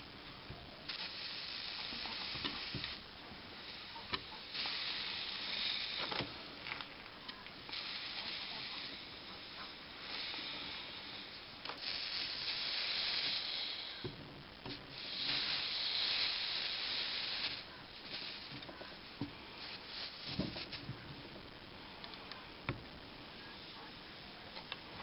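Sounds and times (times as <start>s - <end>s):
flux sizzling under soldering iron: 0.0s - 25.0s.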